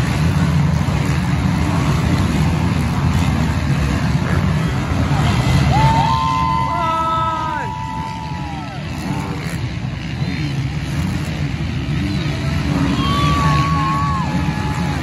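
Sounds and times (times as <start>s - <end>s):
motocross bike engines droning: 0.0s - 15.0s.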